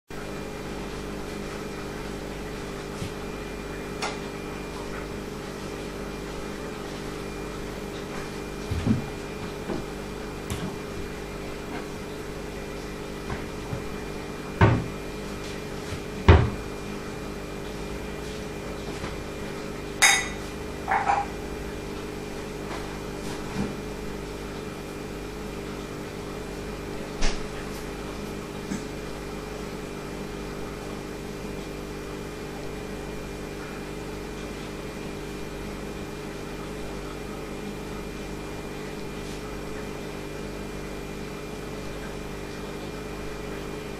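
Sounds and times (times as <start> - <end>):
aquarium filter humming: 0.1 - 43.9.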